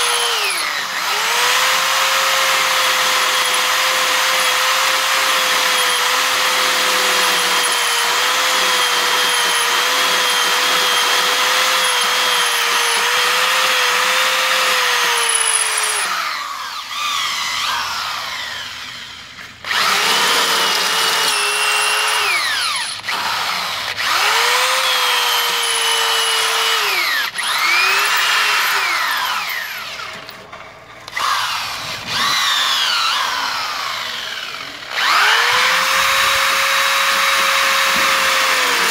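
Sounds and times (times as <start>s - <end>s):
electric drill motor whine: 0.0s - 30.4s, 31.1s - 38.9s.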